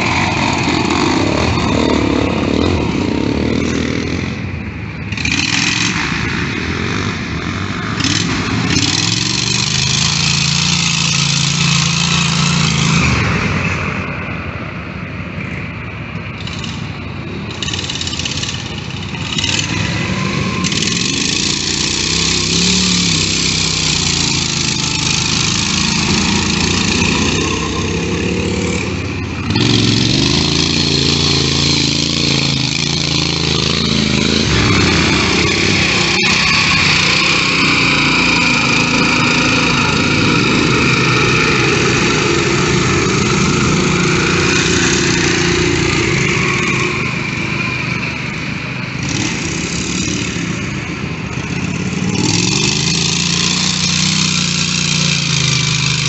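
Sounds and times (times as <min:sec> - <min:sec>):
small engines revving: 0:00.0 - 0:14.2, 0:16.2 - 0:56.0.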